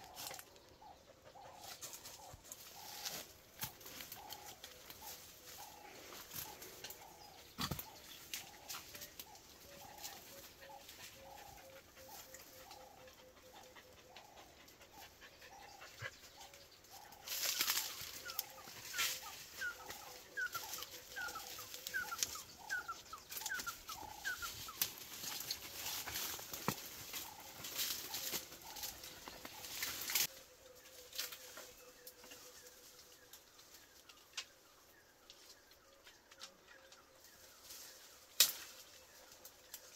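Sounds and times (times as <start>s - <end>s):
footsteps rustling through bush: 0.0s - 13.0s, 15.0s - 39.9s.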